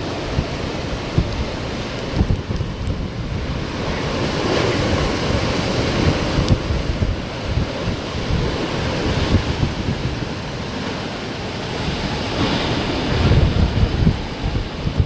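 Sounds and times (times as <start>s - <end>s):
rain: 0.0s - 15.0s
rushing roar of wind: 0.0s - 15.0s
wind buffeting microphone: 0.0s - 15.0s.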